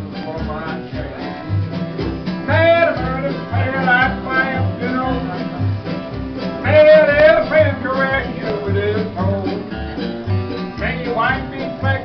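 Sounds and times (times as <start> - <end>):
country band music: 0.0 - 12.0
plucked double bass: 0.0 - 12.0.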